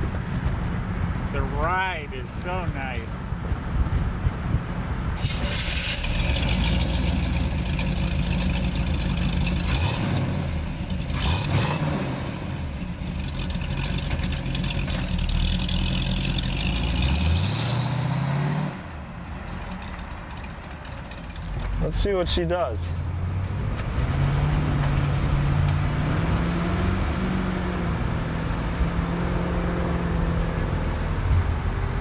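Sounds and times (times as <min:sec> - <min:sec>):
road and wind noise: 0:00.0 - 0:32.0
car engine accelerating through gears: 0:05.2 - 0:21.9, 0:22.9 - 0:32.0.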